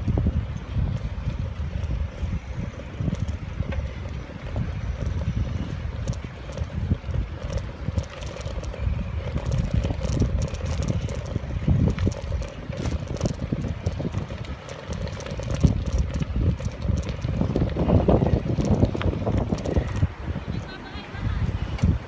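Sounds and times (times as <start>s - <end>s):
wind buffeting microphone: 0.0s - 22.0s
small knocks and rattles: 1.0s - 20.1s.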